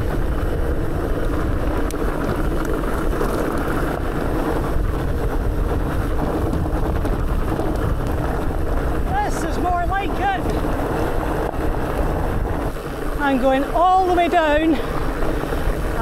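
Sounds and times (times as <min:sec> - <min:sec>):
low rumble of bike ride: 0:00.0 - 0:16.0
wind buffeting microphone: 0:00.0 - 0:16.0.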